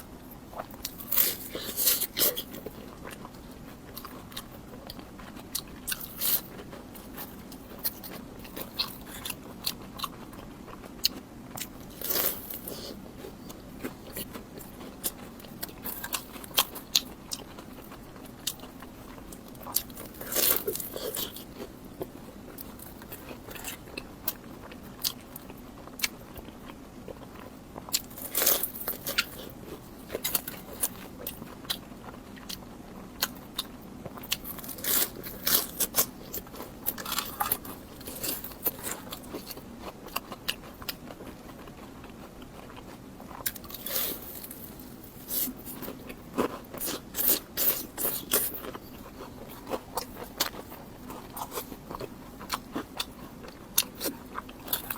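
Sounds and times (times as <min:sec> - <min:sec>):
chewing: 0:00.0 - 0:54.9
crunching on fried food: 0:00.0 - 0:54.9.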